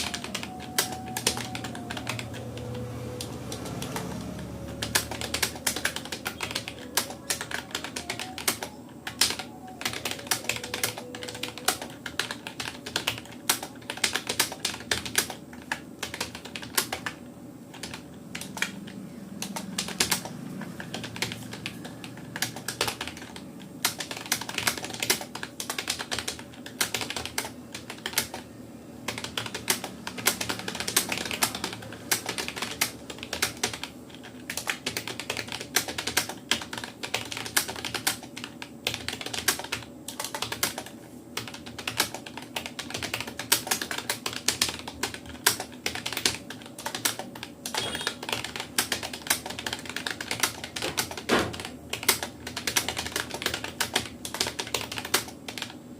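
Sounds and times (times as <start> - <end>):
fast typing on keyboard: 0.0 - 55.8.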